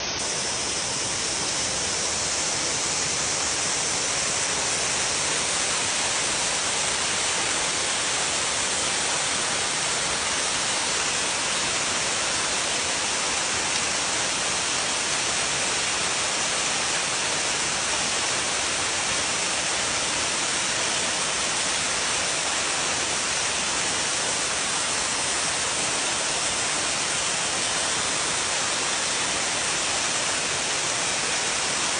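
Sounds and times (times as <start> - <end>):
waterfall pouring: 0.0 - 31.9.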